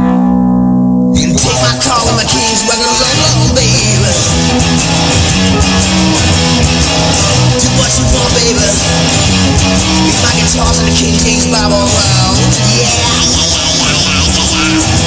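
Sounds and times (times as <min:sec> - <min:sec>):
electric guitar: 0:00.0 - 0:15.0
drums: 0:01.2 - 0:15.0.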